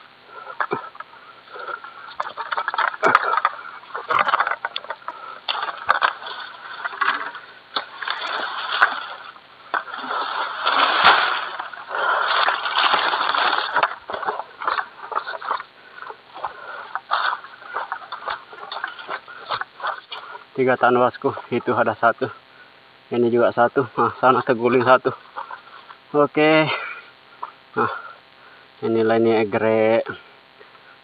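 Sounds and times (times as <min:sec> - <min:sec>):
palm fronds rustling and crackling: 0:00.0 - 0:31.0.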